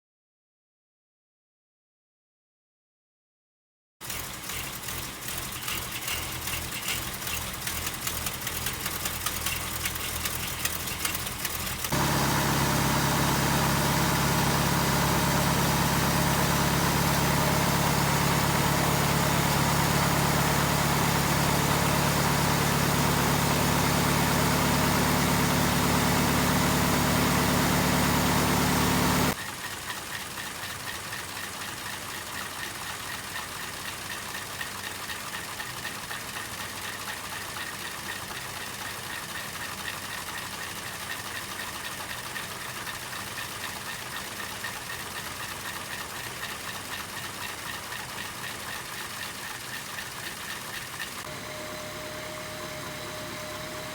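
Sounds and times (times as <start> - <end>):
engine idling with strong hum: 4.0 - 53.9
engine idling with ticking: 4.0 - 53.9.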